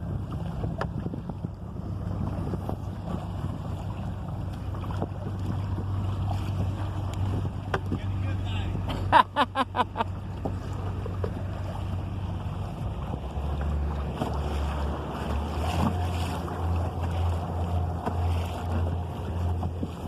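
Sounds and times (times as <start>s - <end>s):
wind buffeting microphone: 0.0s - 9.1s, 10.1s - 20.0s
water splashing against canoe: 0.0s - 20.0s.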